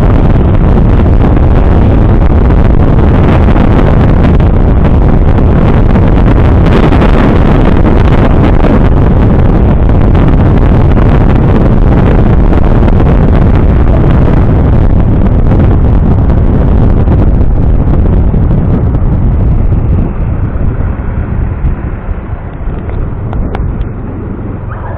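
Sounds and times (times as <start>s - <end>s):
motorcycle engine: 0.0s - 24.9s
road noise: 0.0s - 24.9s
wind buffeting microphone: 0.0s - 24.9s.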